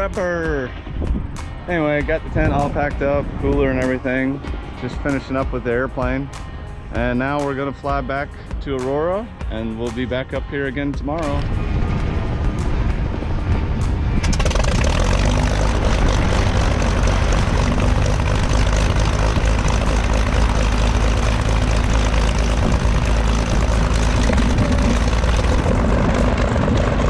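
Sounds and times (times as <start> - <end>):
propeller aircraft engines idling: 0.0 - 27.0.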